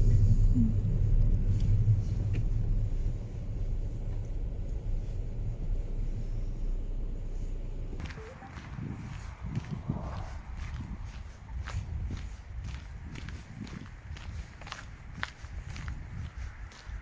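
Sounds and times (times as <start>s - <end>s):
motor vehicle engine rumbling: 0.0s - 17.0s.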